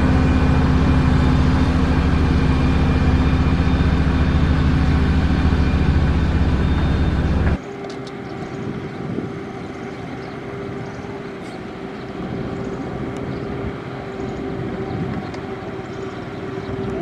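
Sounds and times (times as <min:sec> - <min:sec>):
distant heavy machine engine: 0:00.0 - 0:17.0.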